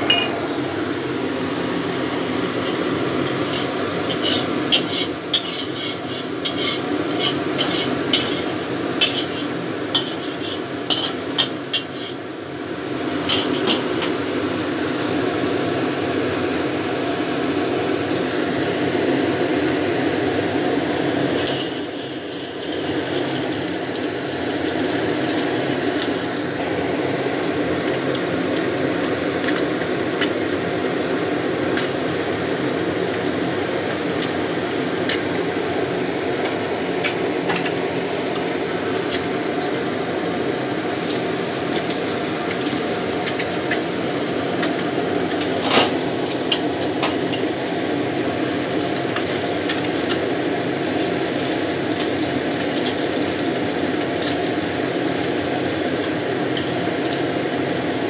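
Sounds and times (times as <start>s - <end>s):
fish frying in oil: 0.1s - 15.6s, 20.9s - 58.0s.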